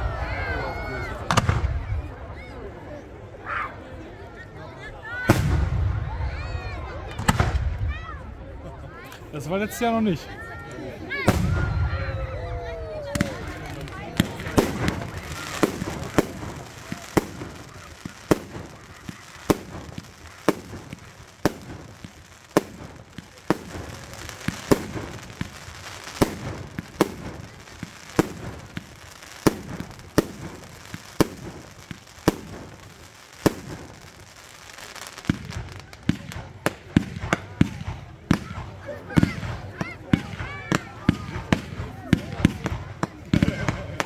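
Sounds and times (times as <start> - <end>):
fireworks bangs: 0.1 - 2.3, 5.2 - 8.0, 11.0 - 44.0.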